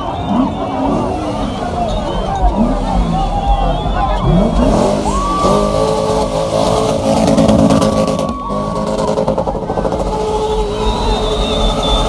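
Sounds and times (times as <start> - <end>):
car engine revving high: 0.0 - 12.0.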